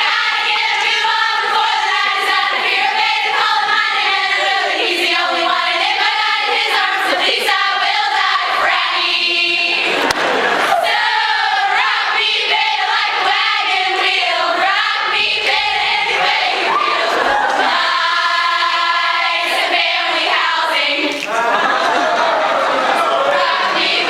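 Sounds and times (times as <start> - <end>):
women singing in chorus: 0.0 - 22.2, 23.1 - 24.0.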